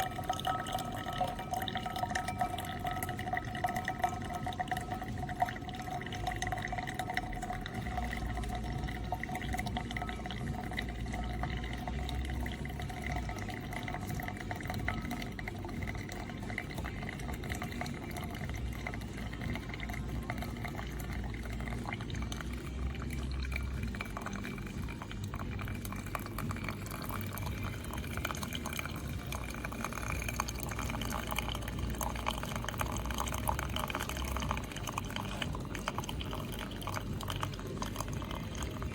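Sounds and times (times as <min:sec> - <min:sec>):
coffee pouring and dripping: 0:00.0 - 0:38.9
low machine hum: 0:00.0 - 0:38.9.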